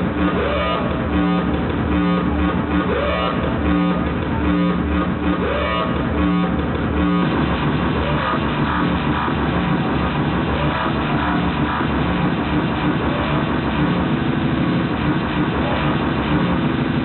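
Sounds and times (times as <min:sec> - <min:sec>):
distorted electronic music: 0:00.0 - 0:17.0.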